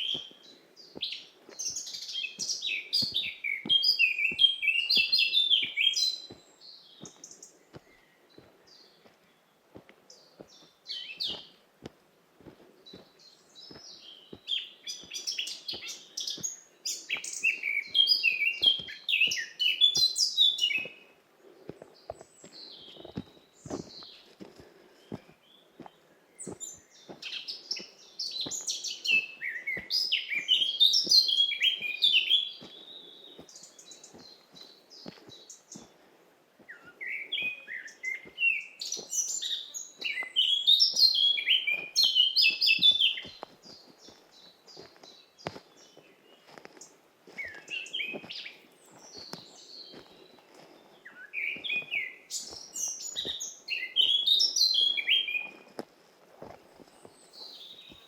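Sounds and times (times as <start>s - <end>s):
soft footsteps on forest path: 0.0s - 58.0s.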